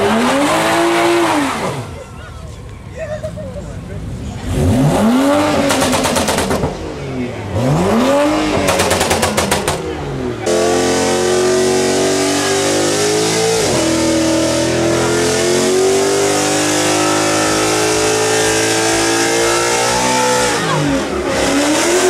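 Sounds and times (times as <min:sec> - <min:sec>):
car engine revving high: 0:00.0 - 0:02.0, 0:04.4 - 0:22.0.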